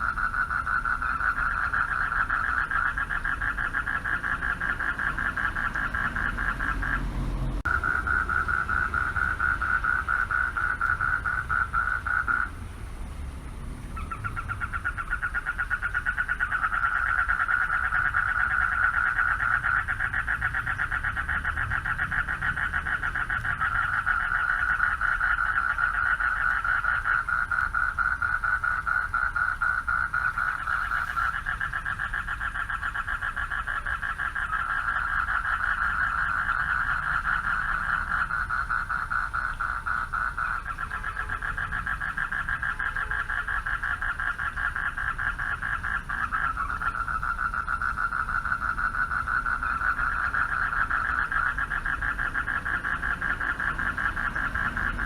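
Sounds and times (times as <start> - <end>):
frogs trilling: 0.0 - 12.8, 13.6 - 55.0.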